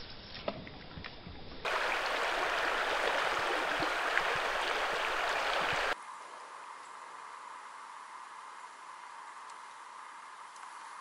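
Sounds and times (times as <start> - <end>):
river water flowing: 1.6 - 11.0.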